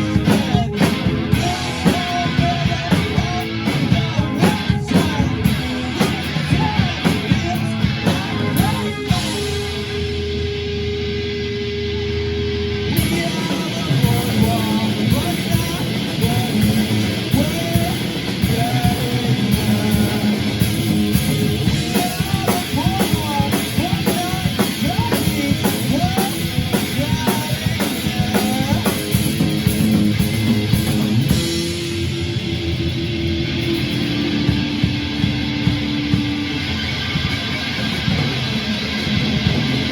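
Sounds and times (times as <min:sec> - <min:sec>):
distorted electric guitar: 0:00.0 - 0:39.9
drum kit: 0:00.0 - 0:39.9.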